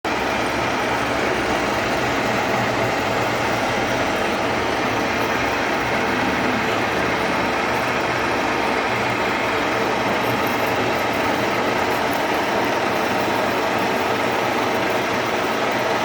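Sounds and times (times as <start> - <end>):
lathe running: 0.1 - 16.0.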